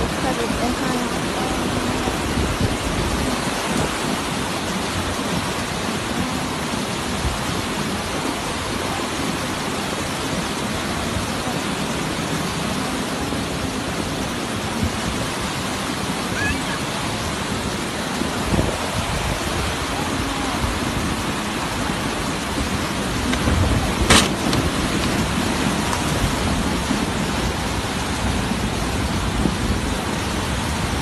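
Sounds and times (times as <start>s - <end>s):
muddy torrent rushing: 0.0s - 31.0s.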